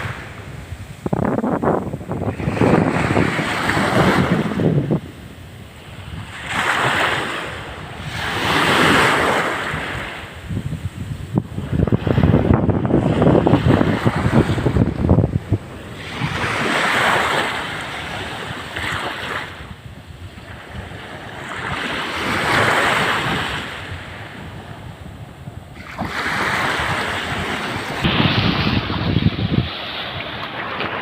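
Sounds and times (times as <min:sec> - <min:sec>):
sea waves washing onto shore: 0:00.0 - 0:31.0
wind buffeting microphone: 0:00.0 - 0:31.0.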